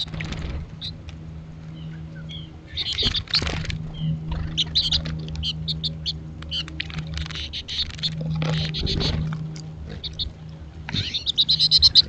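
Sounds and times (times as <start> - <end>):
steady low hum: 0.0 - 12.0
goldfinches chirping: 1.7 - 12.0.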